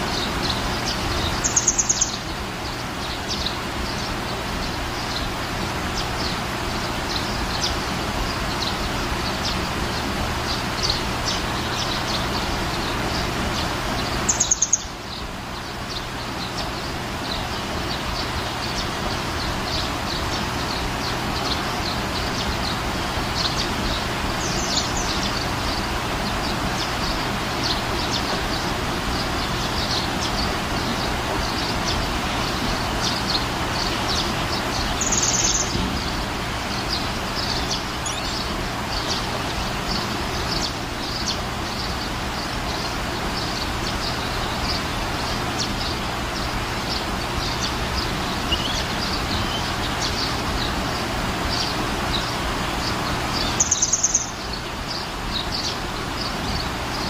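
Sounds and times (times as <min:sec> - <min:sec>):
rapid high twittering: 0:00.0 - 0:57.0
small birds chirping: 0:00.0 - 0:57.0
steady background hiss: 0:00.0 - 0:57.0.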